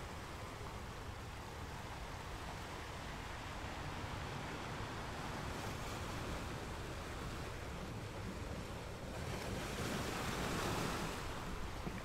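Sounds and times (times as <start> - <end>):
small waves breaking on shore: 0.0 - 12.0.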